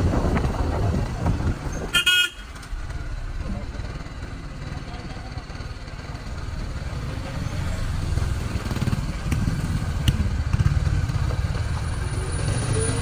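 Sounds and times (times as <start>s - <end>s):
vehicle engine running: 2.3s - 13.0s.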